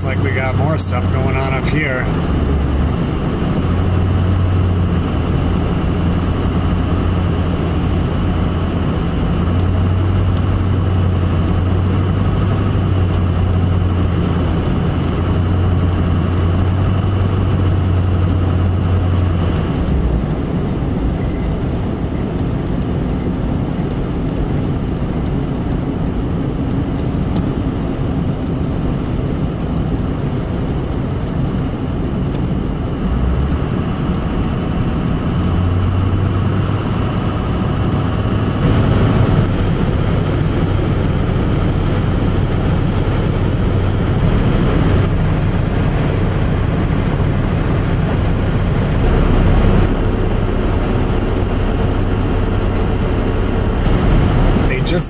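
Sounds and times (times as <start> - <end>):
engine and tyre drone: 0.0 - 55.0
low hum: 0.0 - 55.0.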